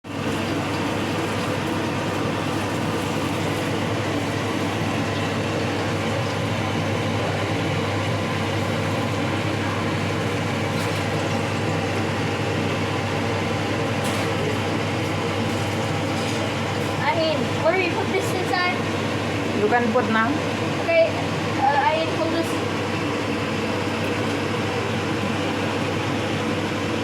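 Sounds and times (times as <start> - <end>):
mechanical hum with low drone: 0.0 - 27.0.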